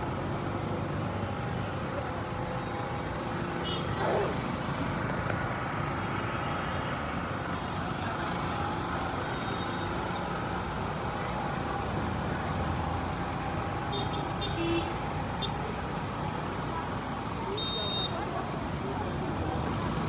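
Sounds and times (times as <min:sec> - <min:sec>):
vehicles passing: 0:00.0 - 0:17.5.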